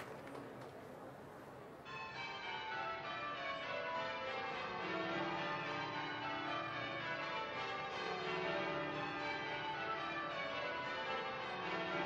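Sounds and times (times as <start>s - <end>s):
church bells ringing: 1.8s - 12.0s.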